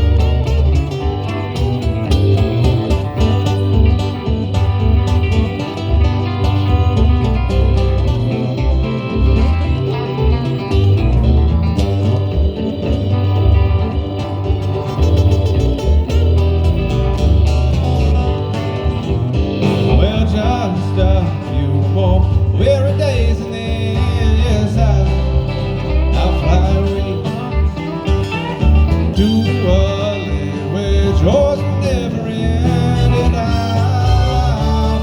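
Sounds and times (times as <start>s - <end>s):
country music on guitars and bass: 0.0s - 35.0s.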